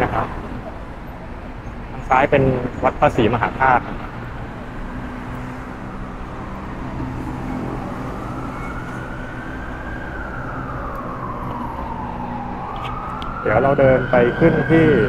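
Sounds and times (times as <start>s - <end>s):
road traffic: 0.0s - 15.0s
siren wailing: 0.0s - 15.0s.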